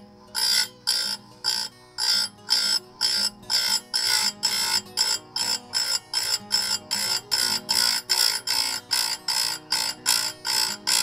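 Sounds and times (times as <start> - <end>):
grinding wheel rasping on saw chain: 0.0 - 11.0
motor humming: 0.0 - 11.0.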